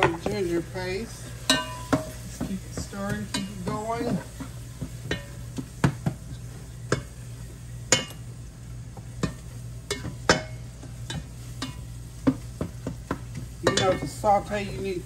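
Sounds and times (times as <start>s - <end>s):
faint sizzle: 0.0s - 15.0s
steady low hum: 0.0s - 15.0s.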